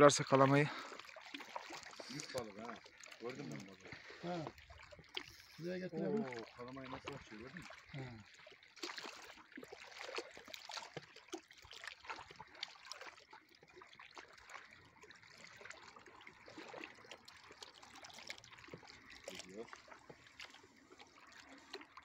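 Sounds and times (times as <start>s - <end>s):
small splashes: 0.0s - 22.0s
water lapping at shore: 0.0s - 22.0s.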